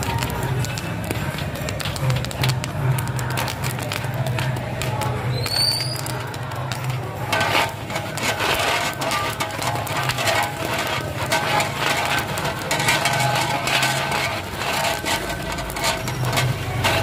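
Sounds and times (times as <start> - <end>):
paddle stirring popcorn in iron pan: 0.0 - 17.0.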